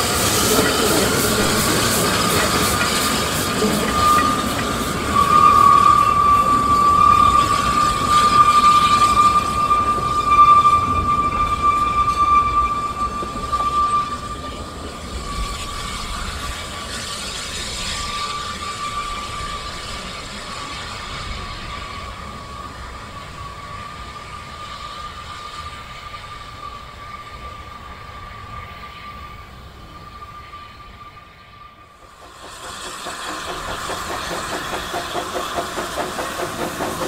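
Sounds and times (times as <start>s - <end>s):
train rumble: 0.0s - 37.0s
train wheels squealing: 0.0s - 37.0s.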